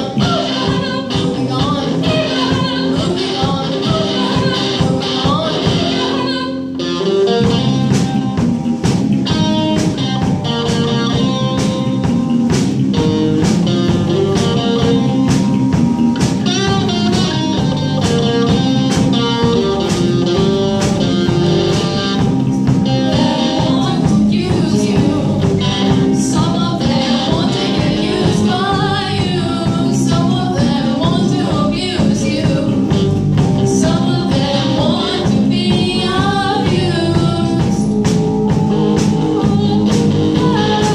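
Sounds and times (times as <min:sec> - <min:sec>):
band song with singing: 0:00.0 - 0:40.9.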